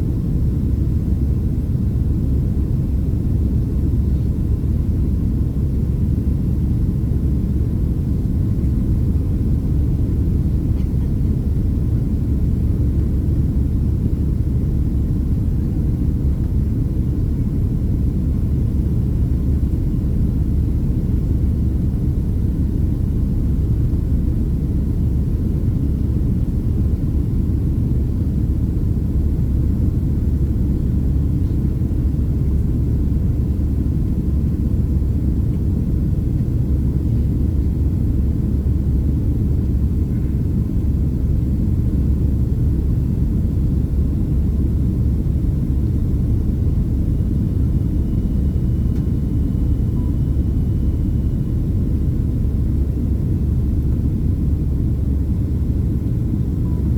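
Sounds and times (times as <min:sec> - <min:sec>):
airliner cabin rumble: 0:00.0 - 0:56.9.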